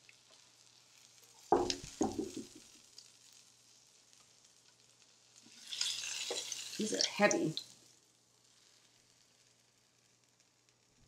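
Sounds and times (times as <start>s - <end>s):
meat sizzling in a skillet: 0.0s - 11.0s.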